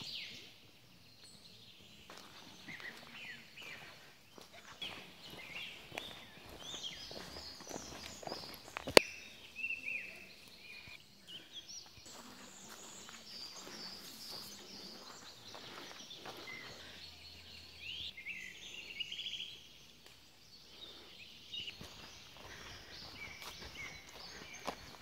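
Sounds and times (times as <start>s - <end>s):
birds chirping and whistling: 0.0s - 25.0s
faint outdoor hush: 0.0s - 25.0s.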